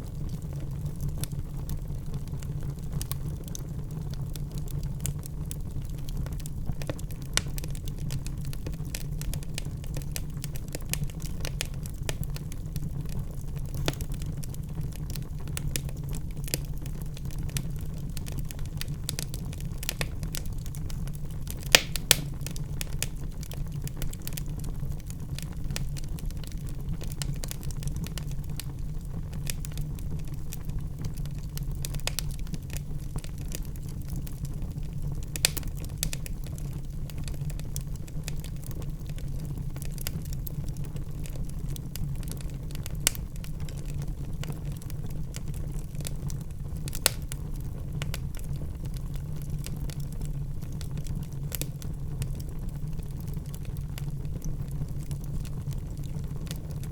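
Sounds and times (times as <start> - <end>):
log fire crackling and popping: 0.0 - 56.9
low rumble of burning: 0.0 - 56.9.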